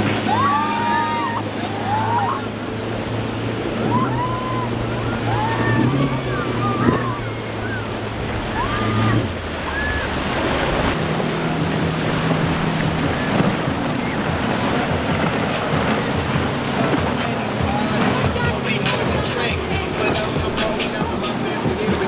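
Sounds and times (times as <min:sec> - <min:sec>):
boat engine hum: 0:00.0 - 0:22.0
waves washing: 0:00.0 - 0:22.0.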